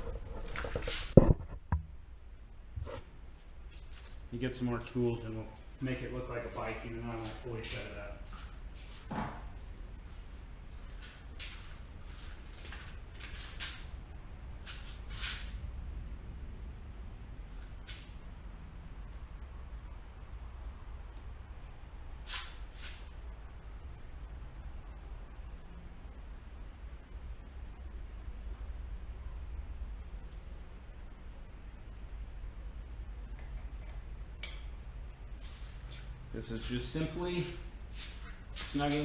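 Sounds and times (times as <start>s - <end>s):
insects chirping: 0.0s - 39.0s
steady high hum: 0.0s - 39.0s.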